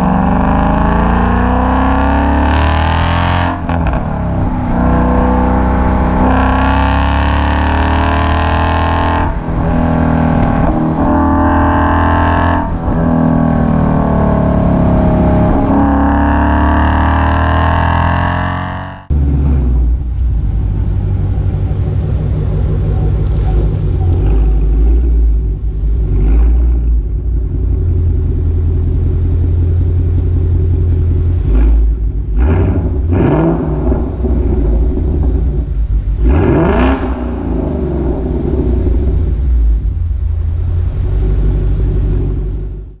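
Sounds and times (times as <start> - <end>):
car engine deep rumble: 0.0 - 43.0.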